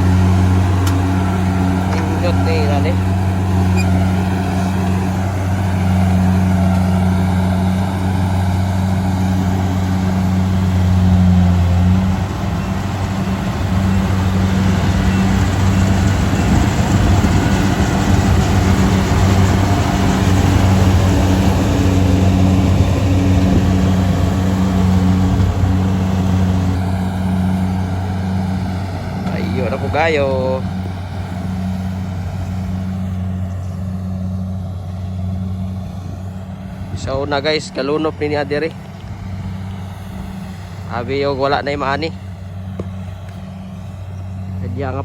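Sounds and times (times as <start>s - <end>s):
combine harvester engine humming: 0.0s - 45.0s.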